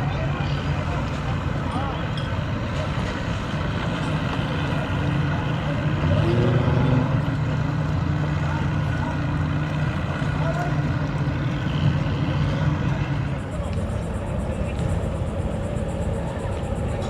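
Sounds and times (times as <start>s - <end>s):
engine running and revving: 2.5s - 16.9s.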